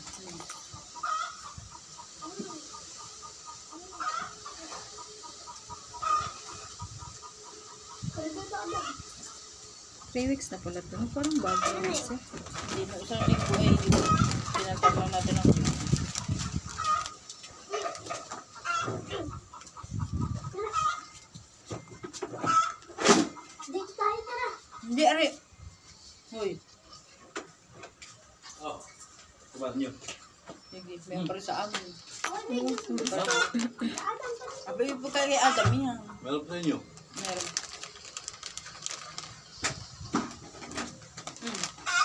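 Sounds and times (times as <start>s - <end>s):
chickens clucking: 0.0s - 42.0s
faint steady background noise: 0.0s - 42.0s.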